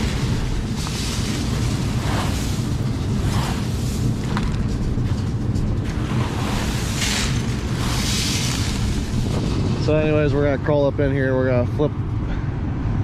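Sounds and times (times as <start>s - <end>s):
combine harvester droning: 0.0s - 13.0s.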